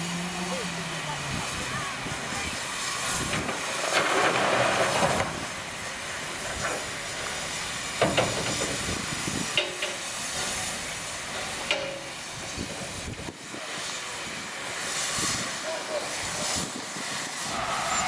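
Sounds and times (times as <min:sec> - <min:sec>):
coal sliding rush: 0:00.0 - 0:18.0
steam locomotive hissing: 0:00.0 - 0:18.0.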